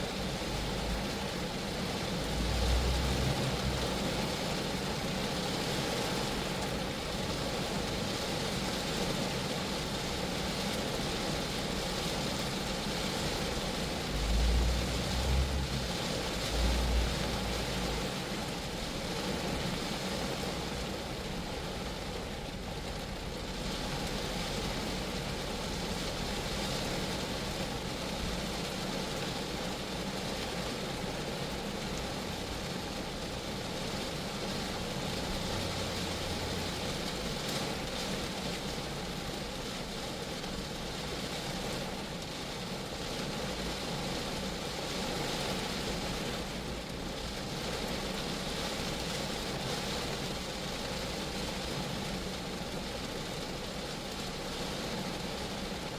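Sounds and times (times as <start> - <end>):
rain on a car body: 0.0 - 55.9.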